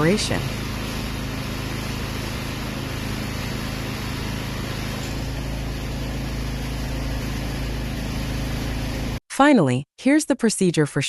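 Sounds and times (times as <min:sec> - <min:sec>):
small petrol engine running: 0:00.0 - 0:09.2
spray hiss: 0:00.0 - 0:09.2.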